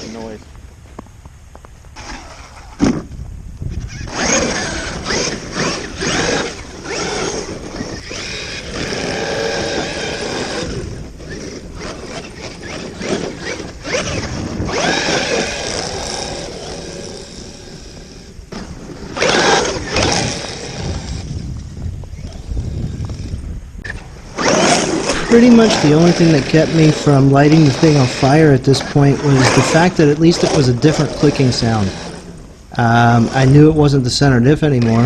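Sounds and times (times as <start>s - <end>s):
tires churning snow: 0.0s - 35.0s
electric motor whining: 1.9s - 2.9s, 3.6s - 33.9s.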